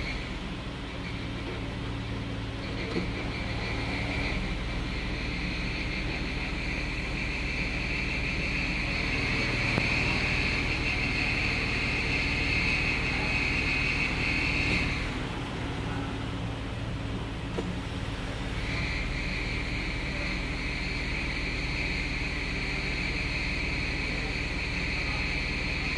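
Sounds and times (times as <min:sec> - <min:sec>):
car engine hum: 0:00.0 - 0:25.9
high-pitched engine whine: 0:00.0 - 0:25.9.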